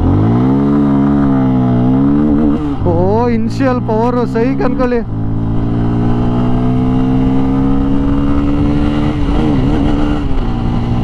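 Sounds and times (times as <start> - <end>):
motorcycle engine accelerating hard: 0.0 - 11.0.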